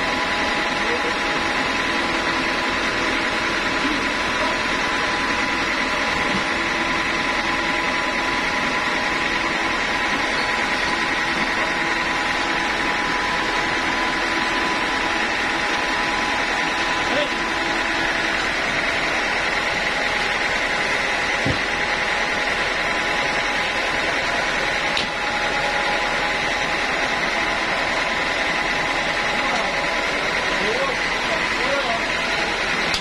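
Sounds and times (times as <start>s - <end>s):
band sawmill humming: 0.0s - 33.0s
machinery high whine: 0.0s - 33.0s.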